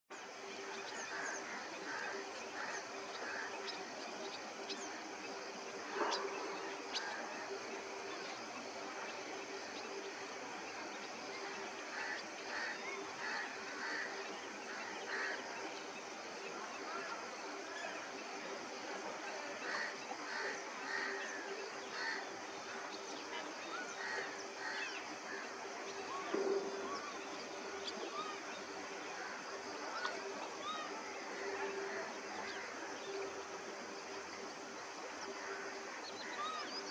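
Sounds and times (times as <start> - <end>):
steady hiss: 0.1 - 36.9.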